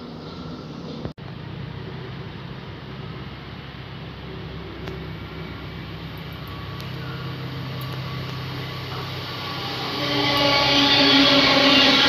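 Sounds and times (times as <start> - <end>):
electric train approaching: 0.0 - 12.0
humming tone: 0.2 - 12.0.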